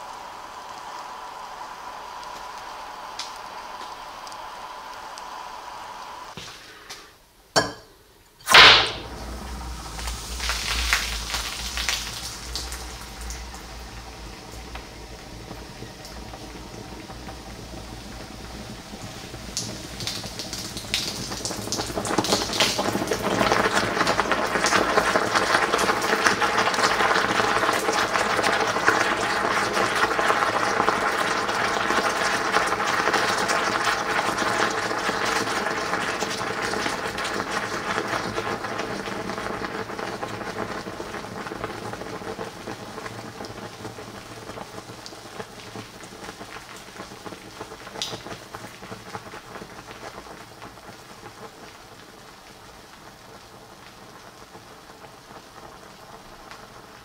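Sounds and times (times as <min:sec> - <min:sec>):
oil sizzling and crackling: 0:00.0 - 0:57.0.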